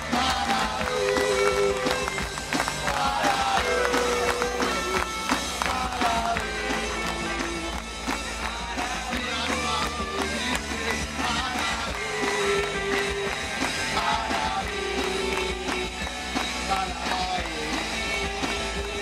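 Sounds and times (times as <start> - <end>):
drums beating: 0.0 - 19.0
live rock band playing: 0.0 - 19.0.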